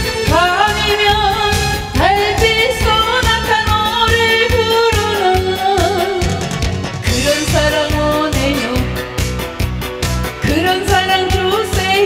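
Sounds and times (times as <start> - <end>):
woman singing: 0.0 - 9.2, 10.4 - 12.0.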